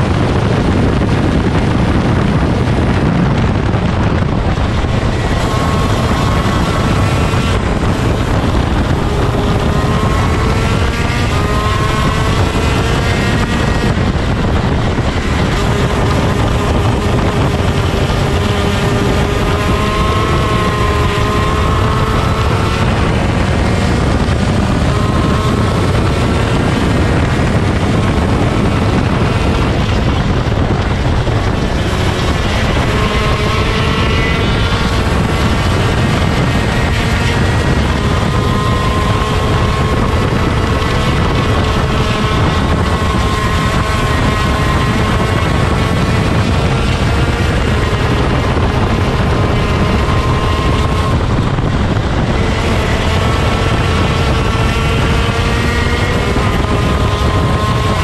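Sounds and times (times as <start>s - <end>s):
kart engine running: 0.0s - 58.0s
wind noise on microphone: 0.0s - 58.0s.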